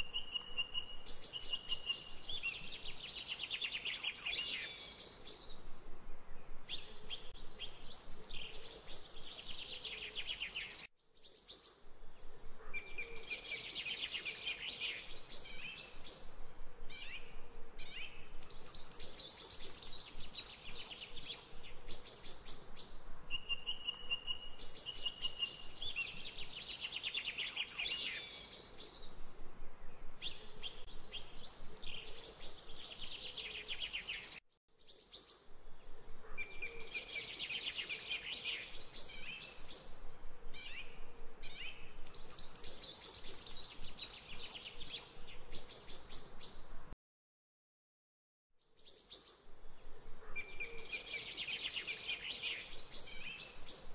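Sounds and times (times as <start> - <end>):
birds singing: 0.0 - 5.8, 6.4 - 46.7, 48.6 - 53.9.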